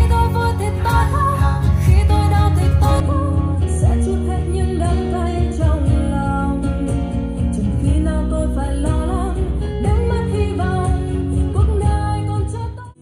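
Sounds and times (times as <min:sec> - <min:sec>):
song with guitar and bass: 0:00.0 - 0:13.0.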